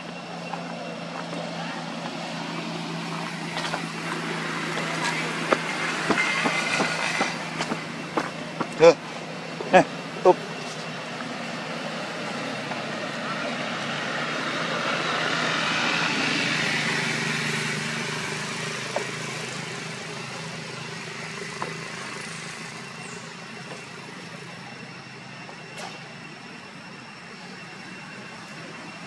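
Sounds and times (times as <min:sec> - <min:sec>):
vehicle passing on road: 0:00.0 - 0:24.0.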